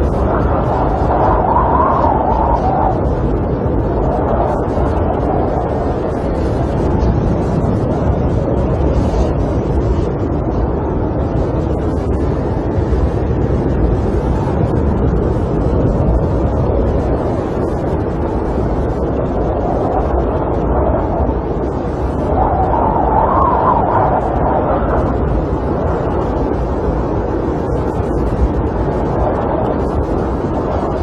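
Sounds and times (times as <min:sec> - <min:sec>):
storm wind rumble against camper: 0:00.0 - 0:31.0.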